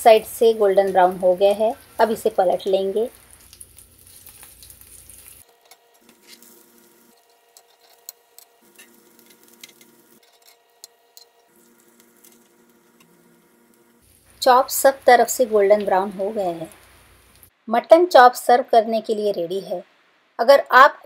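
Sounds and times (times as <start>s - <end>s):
meat sizzling in hot oil: 0.0s - 17.5s.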